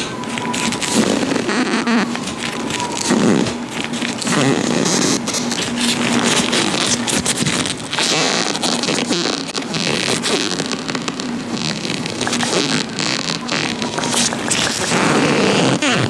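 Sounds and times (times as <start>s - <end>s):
latex gloves rubbing and crinkling: 0.0s - 16.0s.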